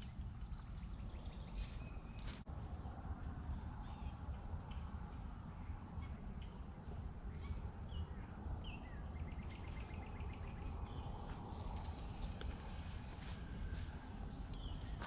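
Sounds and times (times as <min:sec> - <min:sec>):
birds chirping and whistling: 0:00.0 - 0:02.8, 0:03.5 - 0:15.0
steady low rumble: 0:00.0 - 0:15.0.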